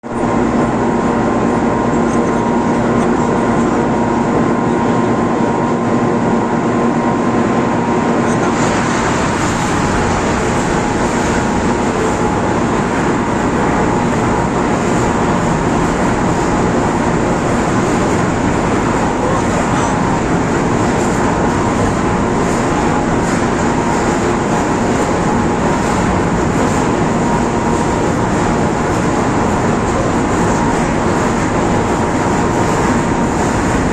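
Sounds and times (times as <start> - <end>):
crane machinery hum: 0.0 - 33.9.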